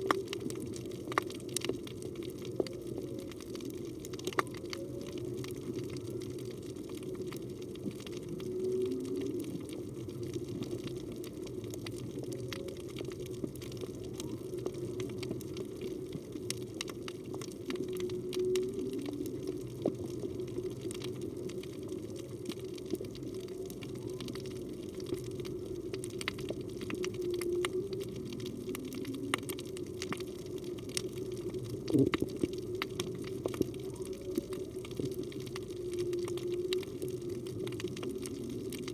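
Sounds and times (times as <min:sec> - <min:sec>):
underwater rush of water: 0:00.0 - 0:38.9.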